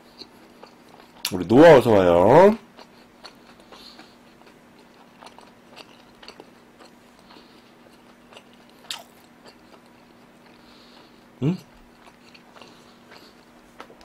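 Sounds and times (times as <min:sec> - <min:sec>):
person chewing food: 0:00.0 - 0:01.4, 0:02.6 - 0:14.0.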